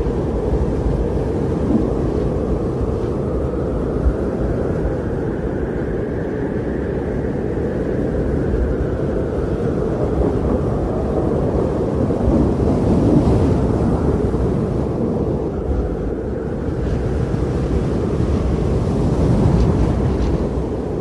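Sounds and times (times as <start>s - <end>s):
strong blizzard wind blowing: 0.0s - 21.0s.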